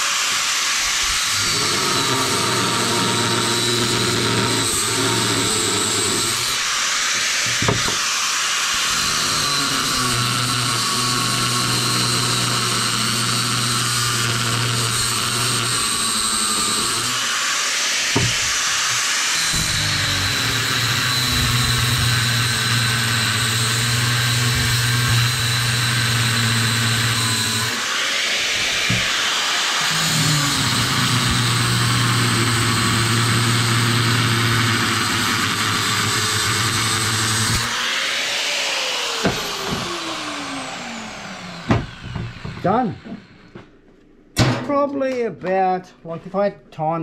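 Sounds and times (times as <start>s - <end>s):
angle grinder cutting steel: 0.0s - 43.6s
grinder spinning down: 0.0s - 43.6s.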